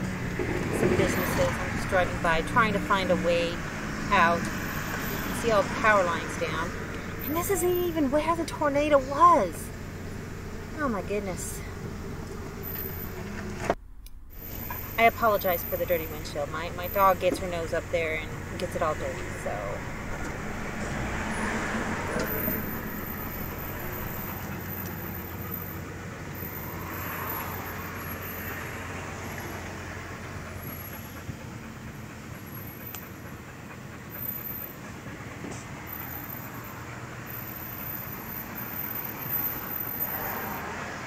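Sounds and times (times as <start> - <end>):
engine and road hum: 0.0 - 41.0.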